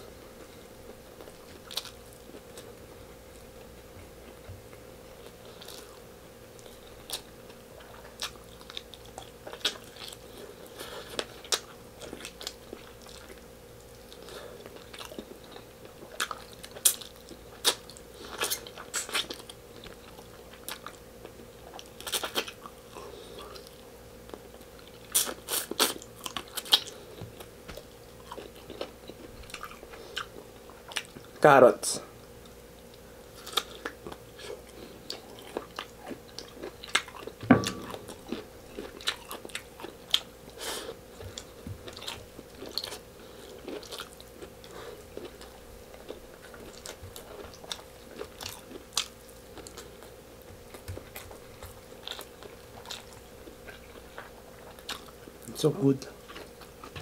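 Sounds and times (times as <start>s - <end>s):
faint hum: 0.0s - 57.0s
close chewing and mouth smacks: 0.4s - 31.4s, 32.4s - 57.0s.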